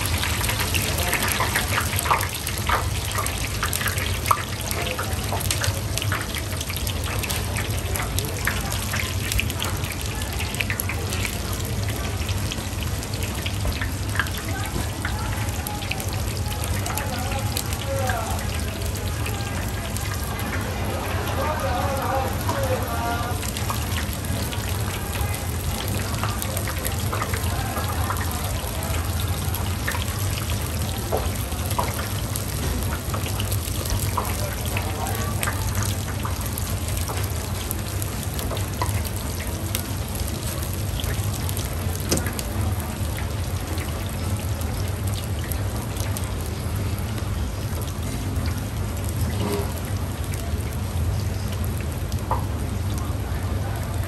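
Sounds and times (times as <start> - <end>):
potatoes deep-frying in oil: 0.0 - 54.0.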